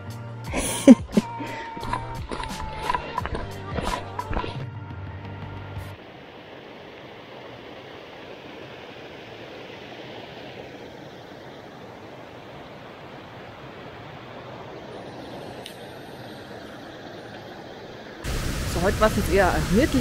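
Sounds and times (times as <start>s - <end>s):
stream water rushing: 0.6s - 4.6s, 5.7s - 20.0s.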